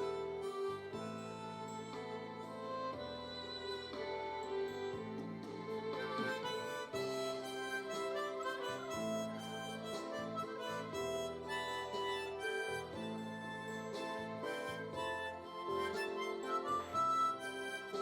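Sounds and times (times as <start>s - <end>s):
harmonica playing slow melody: 0.0s - 18.0s.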